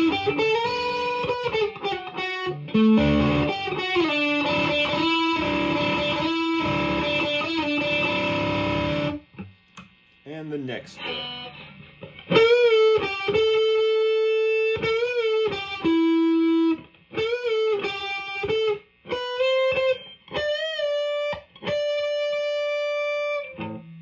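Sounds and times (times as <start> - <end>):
distorted electric guitar lead: 0.0 - 24.0.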